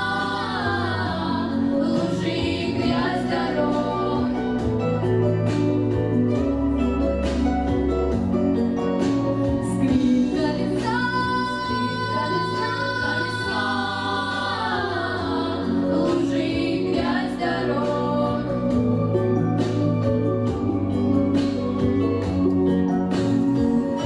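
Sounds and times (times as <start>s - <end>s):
instrumental accompaniment: 0.0s - 24.0s
vocal ensemble singing in harmony: 0.0s - 24.0s.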